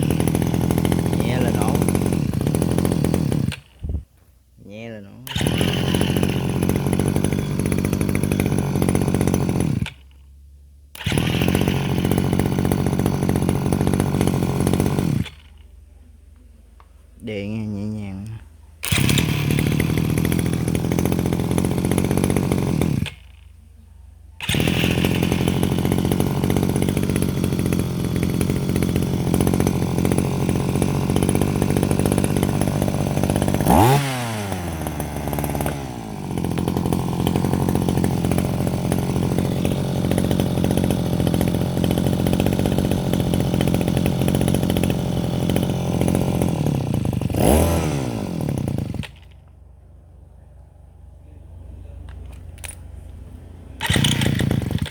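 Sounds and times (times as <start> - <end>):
brush cutter engine revving: 0.0 - 4.1, 4.7 - 10.3, 10.9 - 15.9, 17.2 - 23.6, 24.4 - 49.6, 51.8 - 54.9.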